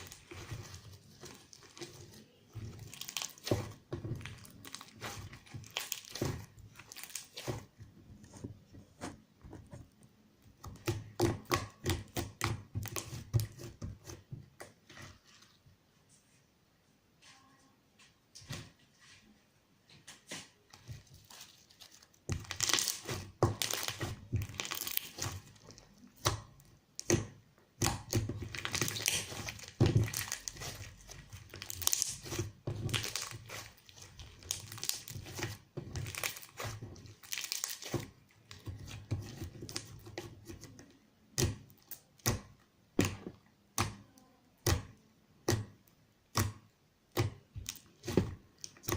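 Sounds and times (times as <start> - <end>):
hands squishing slime: 0.0 - 15.6, 20.4 - 48.9.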